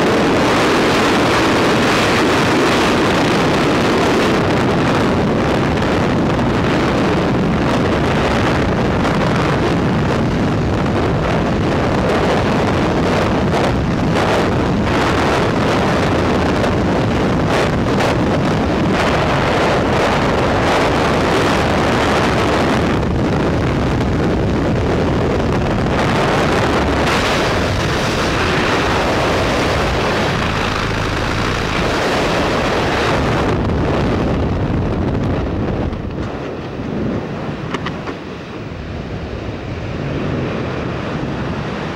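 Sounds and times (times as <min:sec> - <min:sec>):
wind roaring on microphone: 0:00.0 - 0:41.9.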